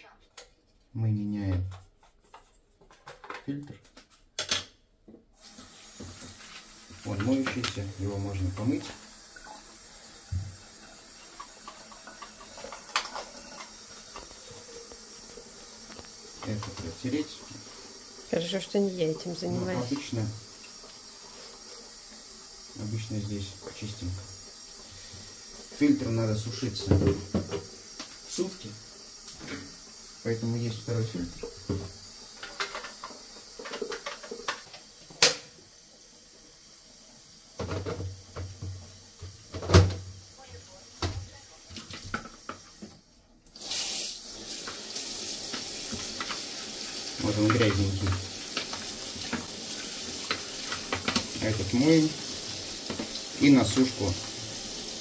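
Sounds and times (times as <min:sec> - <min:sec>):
tap running water: 0:04.0 - 0:55.0.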